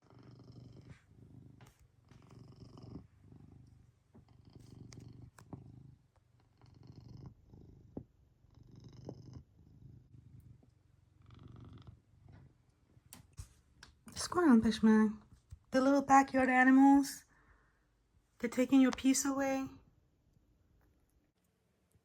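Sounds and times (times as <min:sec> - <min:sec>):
cat purring faintly: 0:00.0 - 0:21.2.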